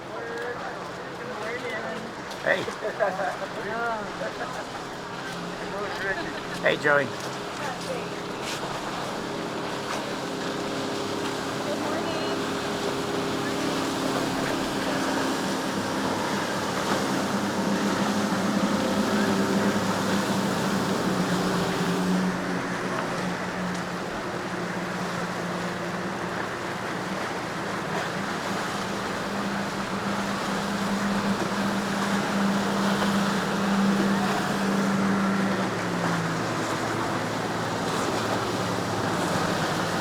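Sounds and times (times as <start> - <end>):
motorboat engine droning: 0.0 - 40.0
waves rushing: 0.0 - 40.0
wind: 0.0 - 40.0.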